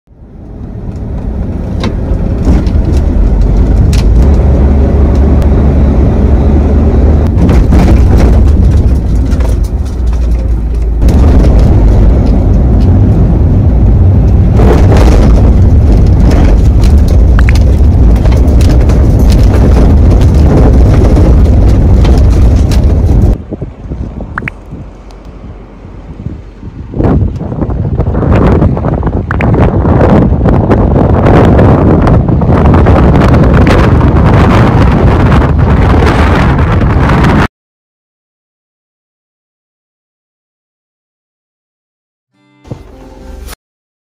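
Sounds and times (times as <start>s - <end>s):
wind blasting microphone: 0.6s - 37.5s.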